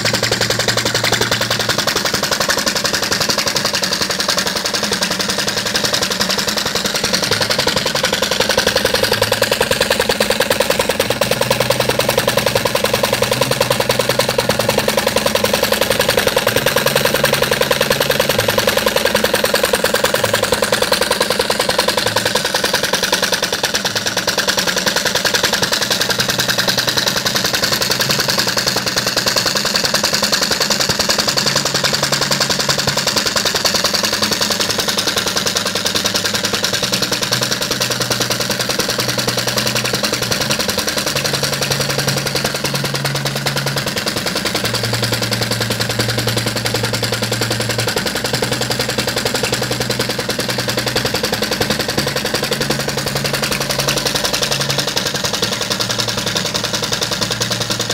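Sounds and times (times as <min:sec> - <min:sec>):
small engine clattering: 0:00.0 - 0:57.9.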